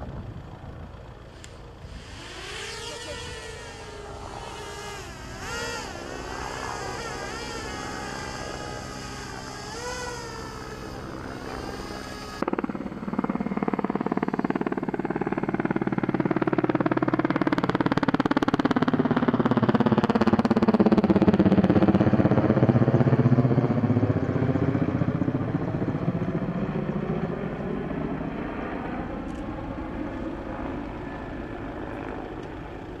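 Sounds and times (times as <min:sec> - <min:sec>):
aircraft passing low overhead: 0:00.0 - 0:33.0.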